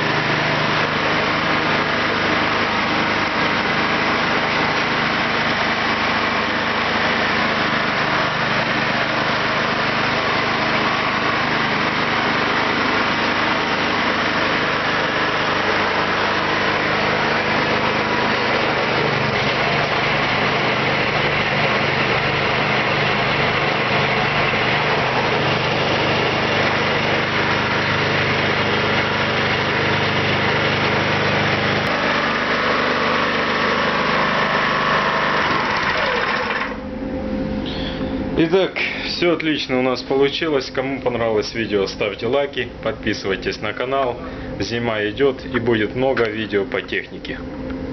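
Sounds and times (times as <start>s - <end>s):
snowblower engine running: 0.0s - 39.1s, 42.7s - 47.9s.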